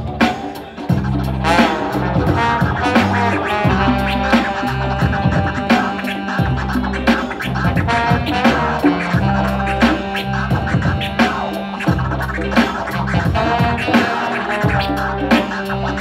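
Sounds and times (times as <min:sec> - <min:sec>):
deep bass notes: 0:00.0 - 0:16.0
hip hop band playing: 0:00.0 - 0:16.0
record scratching: 0:00.0 - 0:16.0.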